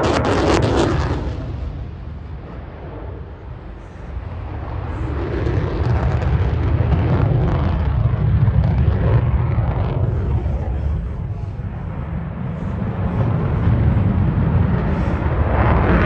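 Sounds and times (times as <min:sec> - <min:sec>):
jet engine rumbling overhead: 0:00.0 - 0:16.0.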